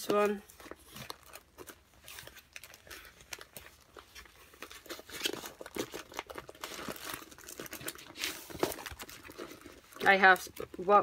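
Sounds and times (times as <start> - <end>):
plastic cover crinkling: 0.0 - 11.0.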